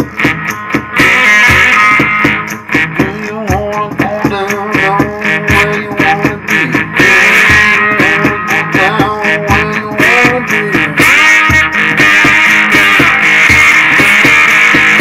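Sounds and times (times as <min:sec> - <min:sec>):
electric guitar blues-rock riff: 0:00.0 - 0:15.0
steady drum beat: 0:00.0 - 0:15.0.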